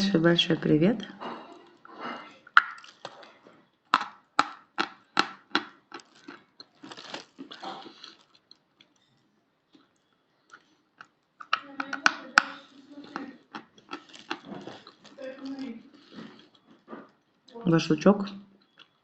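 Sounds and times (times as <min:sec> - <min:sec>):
chalk crunching while chewed: 0:01.5 - 0:17.4, 0:18.6 - 0:19.0.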